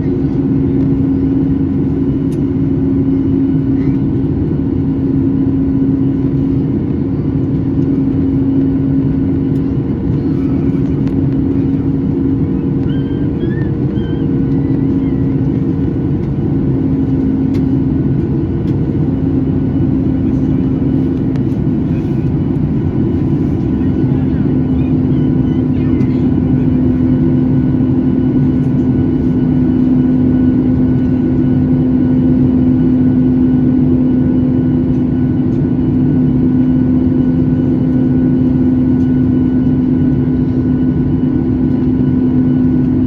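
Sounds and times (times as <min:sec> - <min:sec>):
airplane cabin drone: 0:00.0 - 0:43.0.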